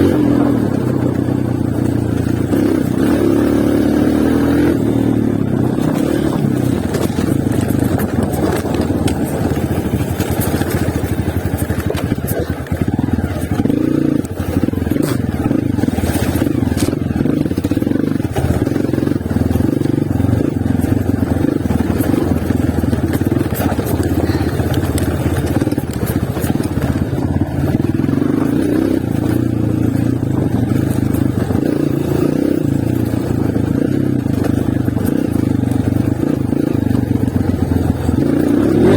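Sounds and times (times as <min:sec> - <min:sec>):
dirt bike engine revving: 0:00.0 - 0:38.9
knocks and clatters over rough ground: 0:00.0 - 0:38.9.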